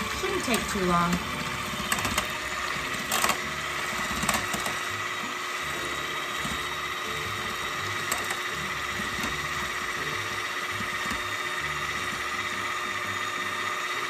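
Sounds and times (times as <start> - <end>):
electric hand mixer whining: 0.0 - 14.0.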